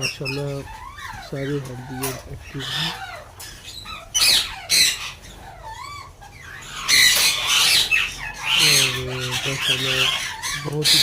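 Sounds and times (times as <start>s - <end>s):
lovebirds squawking: 0.0s - 11.0s.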